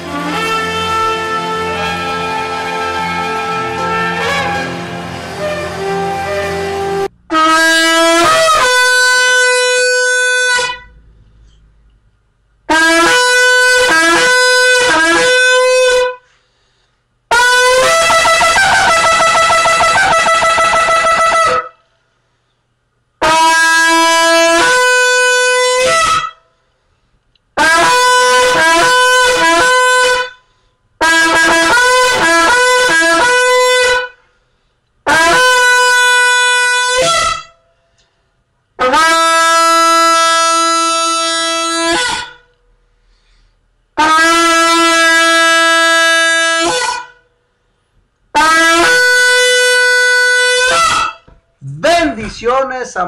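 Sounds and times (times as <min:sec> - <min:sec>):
shofar blasts: 0:00.0 - 0:11.0, 0:12.7 - 0:16.3, 0:17.3 - 0:21.8, 0:23.2 - 0:26.5, 0:27.6 - 0:34.3, 0:35.0 - 0:38.1, 0:38.8 - 0:42.6, 0:44.0 - 0:47.3, 0:48.3 - 0:52.2.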